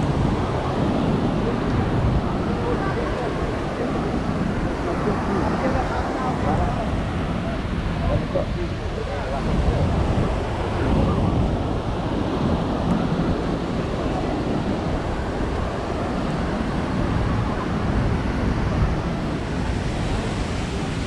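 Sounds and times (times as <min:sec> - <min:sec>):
ocean surf washing on beach: 0:00.0 - 0:21.0
wind rumbling on microphone: 0:00.0 - 0:21.0.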